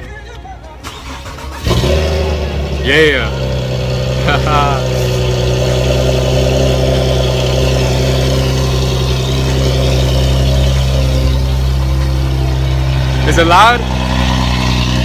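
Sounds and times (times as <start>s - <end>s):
car engine idling loudly: 0.9s - 15.0s.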